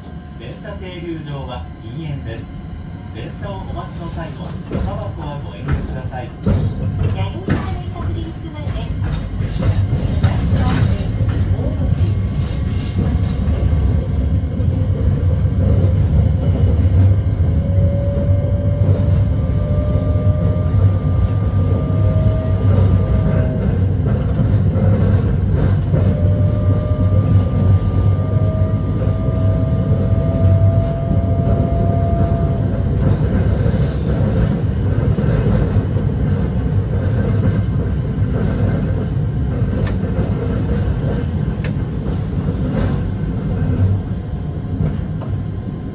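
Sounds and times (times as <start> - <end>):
streetcar wheels and motors rumbling: 0.0 - 45.9.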